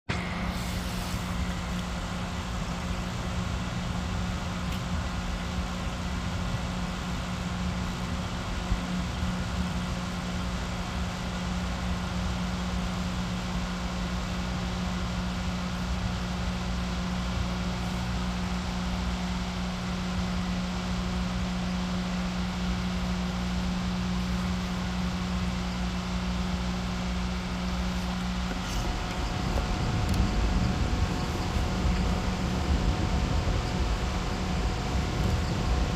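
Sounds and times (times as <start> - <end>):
electric fan running: 0.1 - 35.9.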